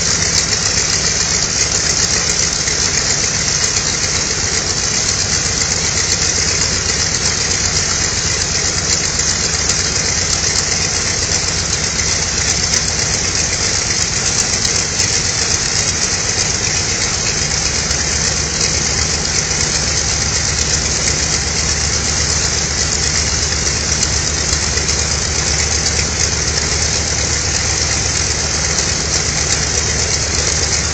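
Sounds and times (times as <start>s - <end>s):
radial engine droning: 0.0s - 30.9s.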